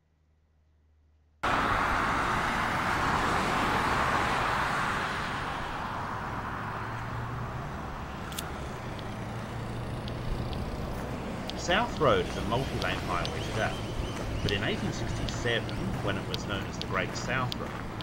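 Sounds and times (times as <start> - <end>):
highway traffic passing: 1.4 - 18.0.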